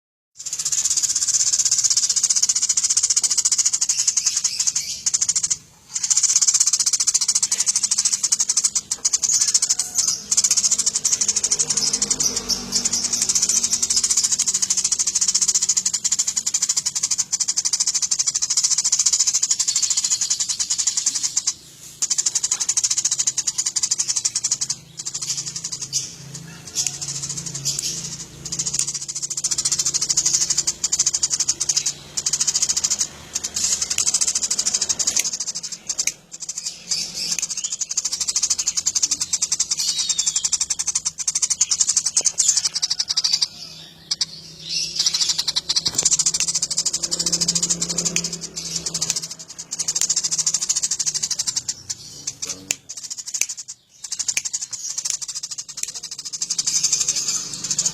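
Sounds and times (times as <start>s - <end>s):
sparrows chirping: 0.3s - 57.9s.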